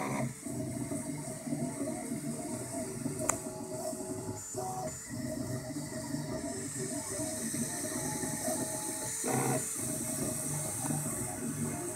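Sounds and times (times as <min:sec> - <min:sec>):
cooling fans hissing: 0:00.0 - 0:11.9.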